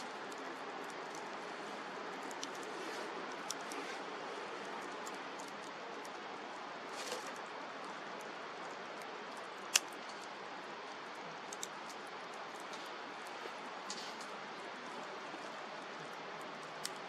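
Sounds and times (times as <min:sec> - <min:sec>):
campfire hissing and crackling: 0:00.0 - 0:17.0.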